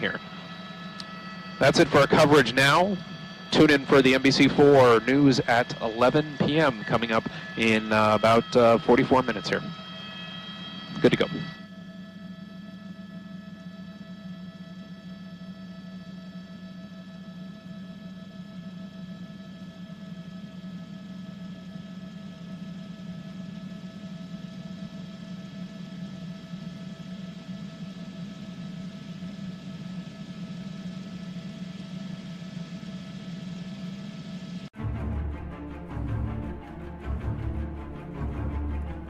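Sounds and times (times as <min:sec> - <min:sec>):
steady drone of held tones: 0:00.0 - 0:39.0.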